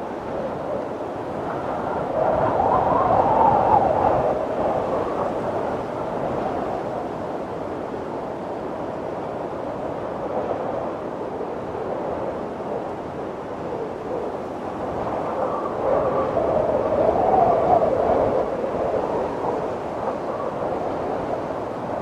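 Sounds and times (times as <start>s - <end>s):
snowstorm wind blowing: 0.0s - 22.0s.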